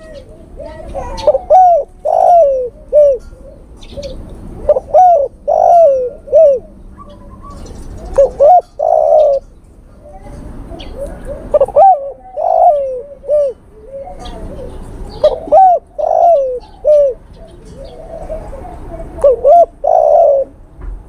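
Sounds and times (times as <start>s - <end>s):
dove cooing: 0.0s - 20.6s
small birds chirping: 0.0s - 20.6s.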